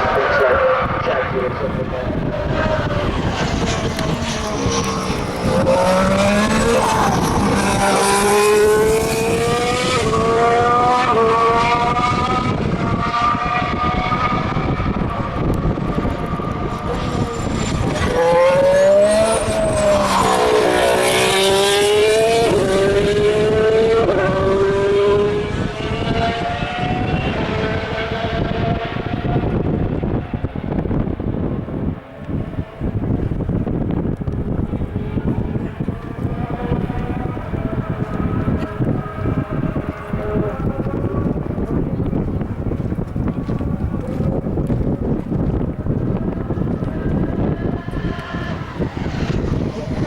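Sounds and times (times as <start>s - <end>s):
racing cars accelerating: 0.0s - 50.0s
racing cars passing: 0.0s - 50.0s.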